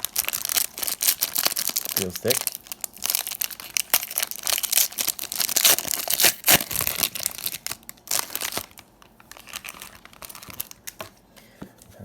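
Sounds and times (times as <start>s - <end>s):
foil pack tearing and crinkling: 0.0s - 11.1s.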